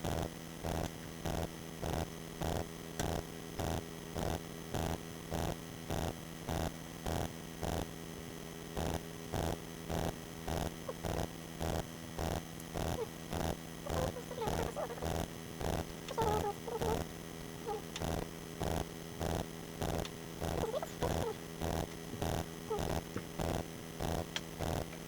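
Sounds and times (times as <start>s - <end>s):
pulsing electrical hum: 0.0s - 25.0s.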